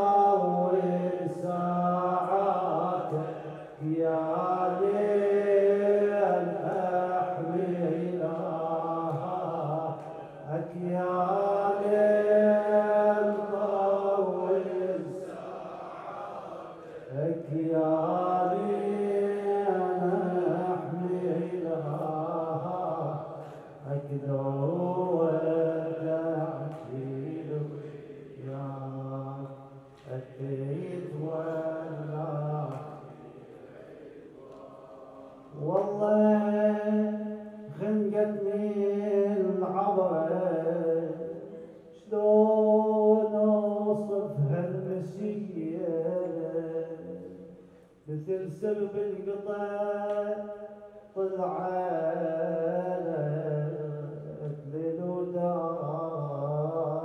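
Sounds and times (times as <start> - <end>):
man chanting a lament: 0.0 - 57.0.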